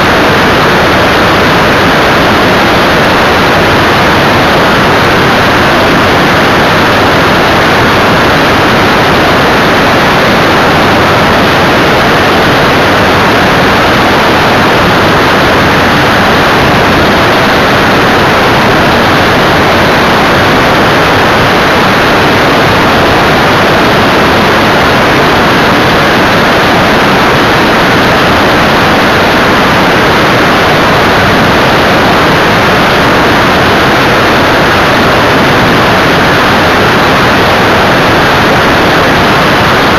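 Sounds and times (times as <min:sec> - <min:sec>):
loud rush of airflow: 0:00.0 - 0:39.9.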